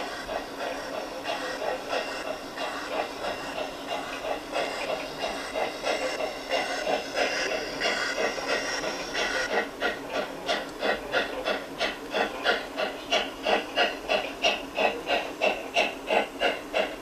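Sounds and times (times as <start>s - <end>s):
continuous steam hiss: 0.0s - 17.0s
model steam locomotive chuffing: 0.0s - 17.0s.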